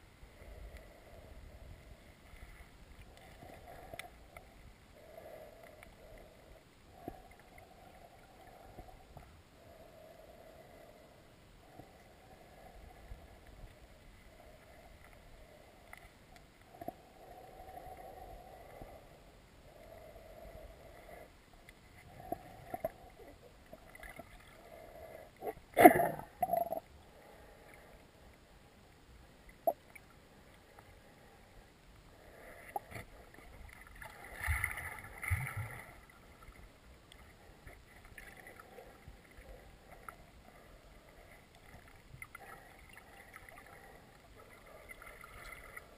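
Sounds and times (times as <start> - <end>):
muffled underwater river gurgling: 0.0 - 45.9.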